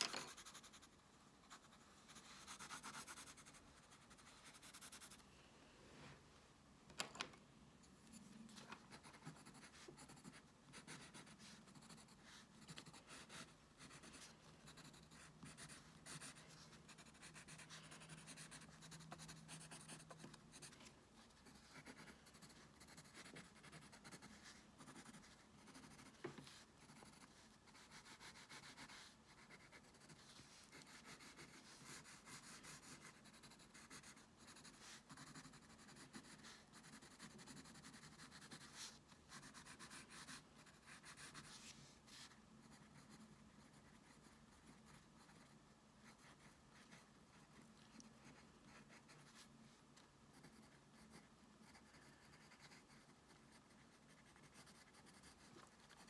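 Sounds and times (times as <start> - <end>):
pencil crayon scratching paper: 0.0 - 5.2, 8.1 - 49.5, 50.3 - 56.0.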